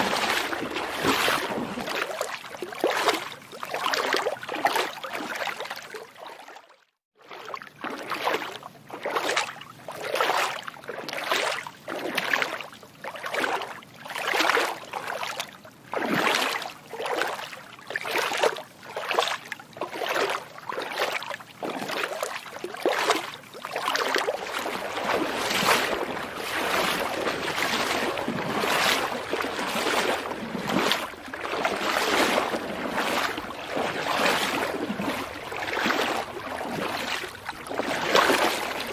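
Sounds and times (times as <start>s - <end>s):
footsteps splashing through water: 0.0s - 38.9s.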